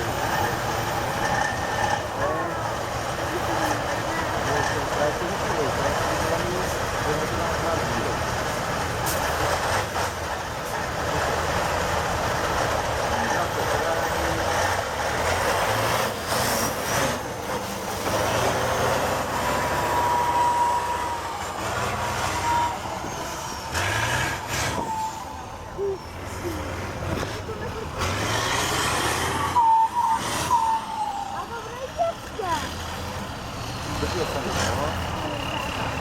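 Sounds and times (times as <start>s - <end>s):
diesel engine revving: 0.0s - 36.0s.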